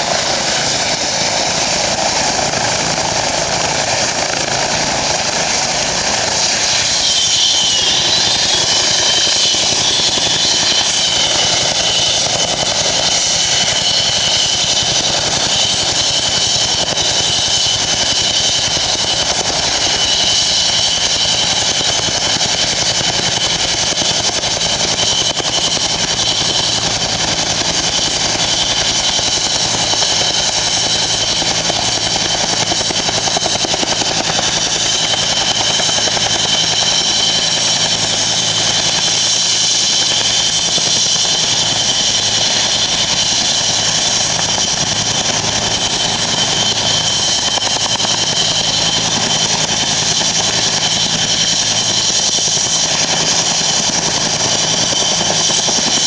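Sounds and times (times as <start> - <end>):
helicopter turbine and rotor: 0.0 - 56.0.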